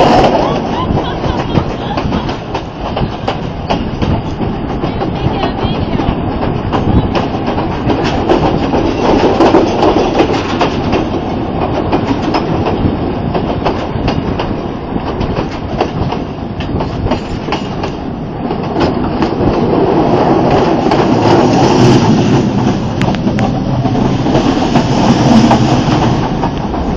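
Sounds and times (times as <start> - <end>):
train rumbling: 0.0 - 26.9
train wheels clattering on track: 0.0 - 26.9.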